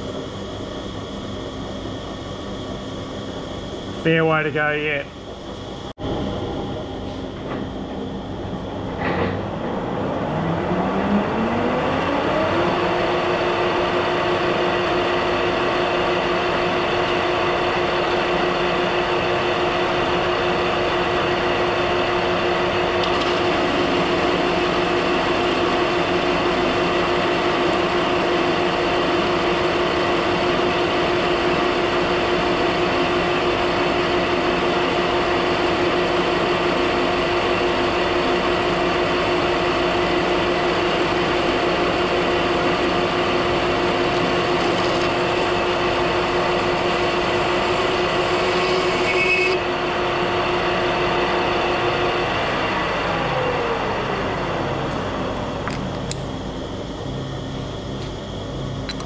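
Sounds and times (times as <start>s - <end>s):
lathe motor whine and hum: 0.0s - 59.0s.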